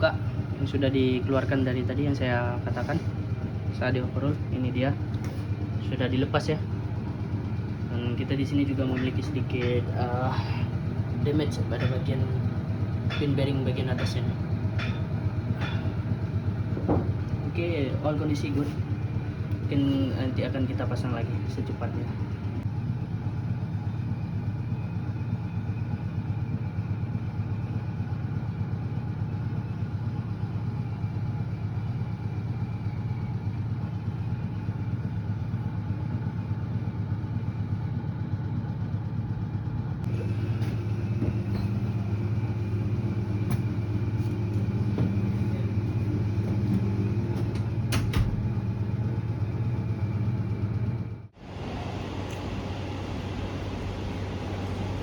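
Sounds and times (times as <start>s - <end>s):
engine room machinery drone: 0.0s - 55.0s.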